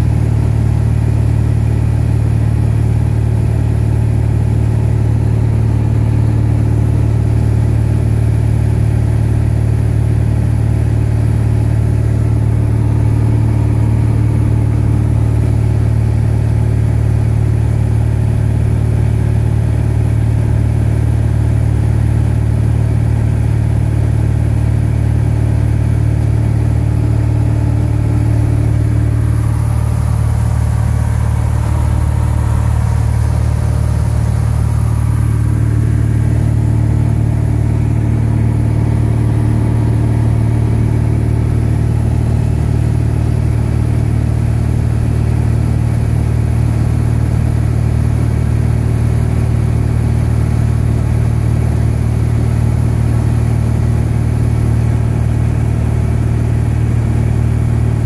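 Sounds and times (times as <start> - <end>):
light plane engine drone: 0.0 - 58.0.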